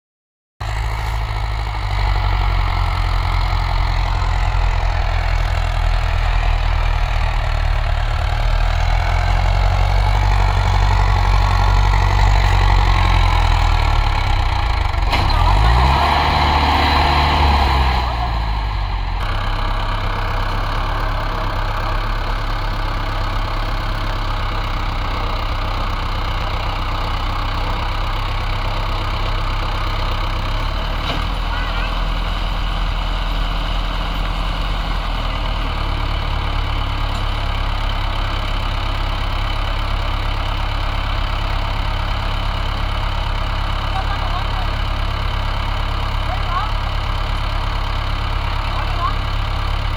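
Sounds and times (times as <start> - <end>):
tractor diesel engine labouring: 0.6 - 49.9.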